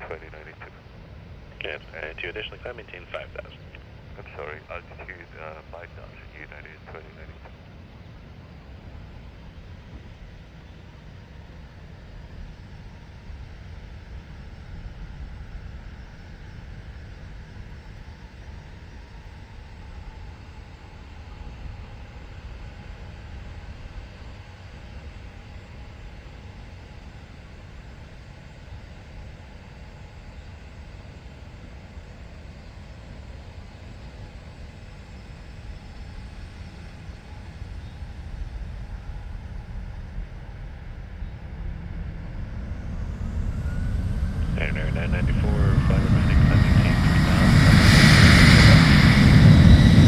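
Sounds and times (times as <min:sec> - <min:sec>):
jet engines at takeoff power: 0:00.0 - 0:50.0.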